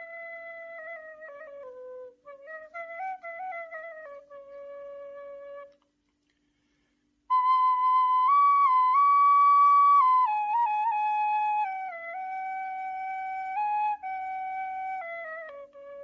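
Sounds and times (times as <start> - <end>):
reed flute melody: 0.0 - 6.0, 7.3 - 16.0.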